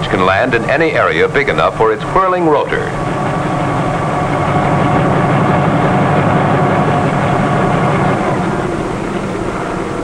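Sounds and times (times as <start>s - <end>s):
helicopter engine and rotor running: 0.0s - 10.0s.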